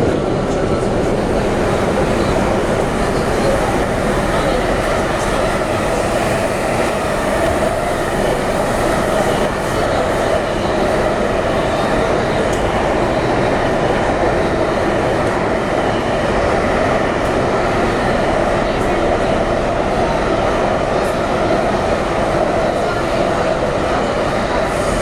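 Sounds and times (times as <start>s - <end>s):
train rumbling through tunnel: 0.0s - 25.0s.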